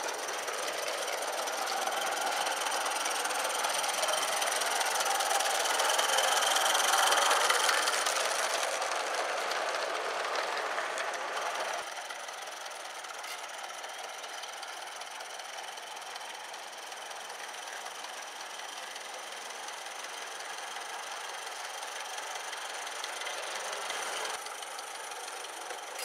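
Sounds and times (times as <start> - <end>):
model steam locomotive chattering: 0.0 - 26.0.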